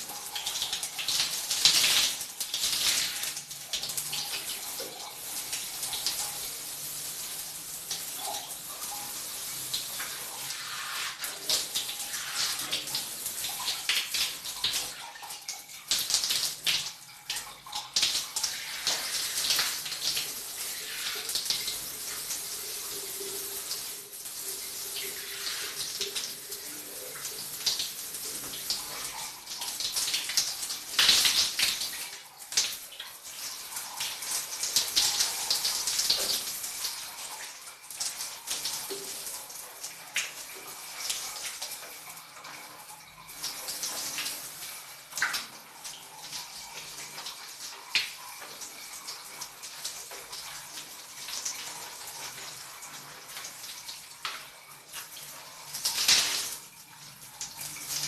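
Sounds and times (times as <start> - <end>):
shower water splashing: 0.0 - 58.0.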